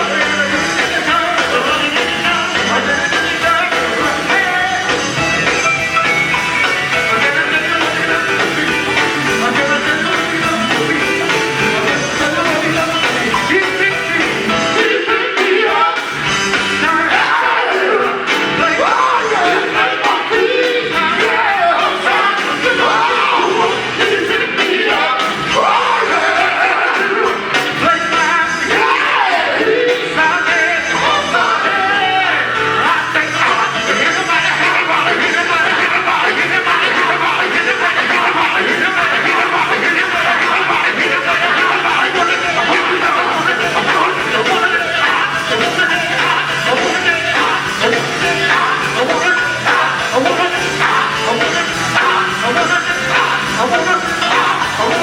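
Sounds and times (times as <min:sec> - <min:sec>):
full band playing: 0:00.0 - 0:55.0
gospel group singing: 0:00.0 - 0:55.0.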